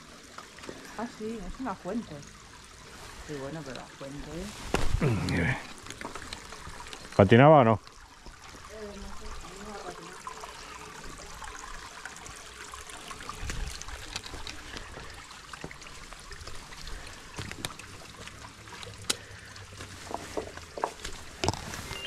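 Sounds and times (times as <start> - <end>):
fountain water trickling: 0.0 - 22.0.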